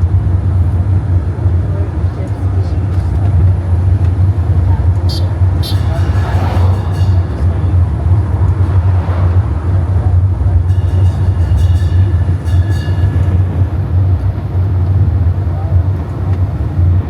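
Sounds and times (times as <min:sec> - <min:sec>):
road train rumbling: 0:00.0 - 0:17.0.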